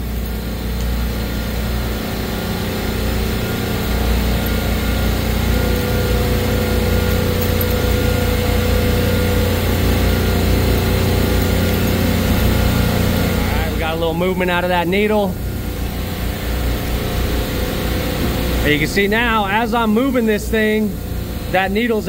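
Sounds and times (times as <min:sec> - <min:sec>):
faint steady whine: 0:00.0 - 0:22.0
refrigeration compressor hum: 0:00.0 - 0:22.0.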